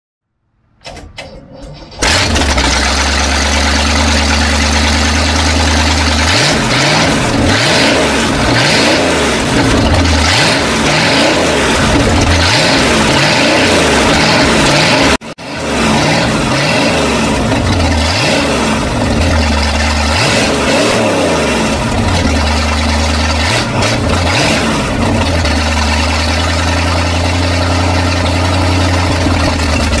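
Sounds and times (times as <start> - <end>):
boat engine running unevenly: 2.0 - 30.0.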